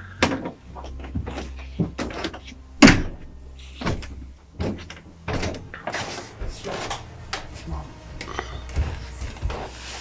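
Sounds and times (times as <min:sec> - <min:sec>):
footsteps on wooden stairs: 0:00.7 - 0:02.5, 0:03.8 - 0:10.0.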